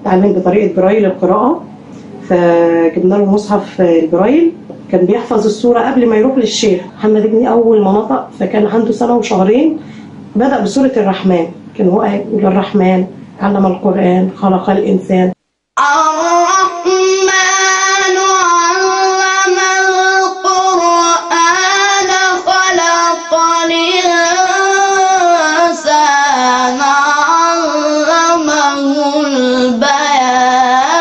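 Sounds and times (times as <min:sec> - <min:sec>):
boy chanting melodically: 0:00.0 - 0:15.1, 0:15.8 - 0:31.0.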